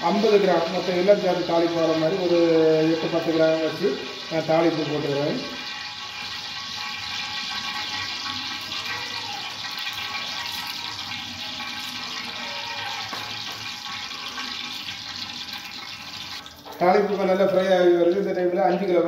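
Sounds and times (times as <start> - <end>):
spices sizzling in hot oil: 0.0 - 18.9.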